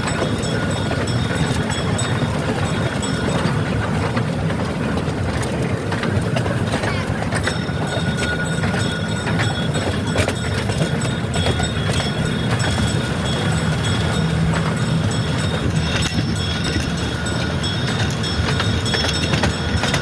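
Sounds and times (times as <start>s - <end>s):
train clicks: 0.0s - 20.0s
train rumbling: 0.0s - 20.0s.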